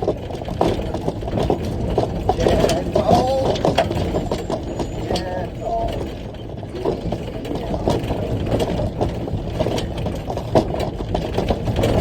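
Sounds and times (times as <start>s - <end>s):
truck engine drone: 0.0s - 10.2s
knocks and rattles: 0.0s - 12.0s.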